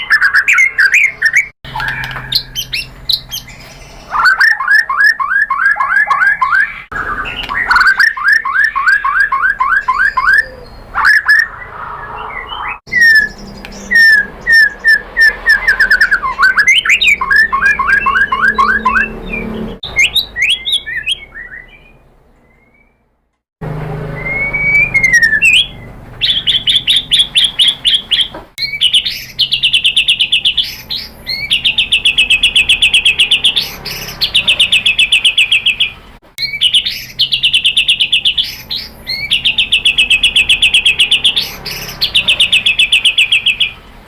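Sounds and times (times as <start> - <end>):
bird chips and trills: 0.0 - 23.0, 24.2 - 43.8
bird singing whistled notes: 0.0 - 23.0, 24.1 - 43.8.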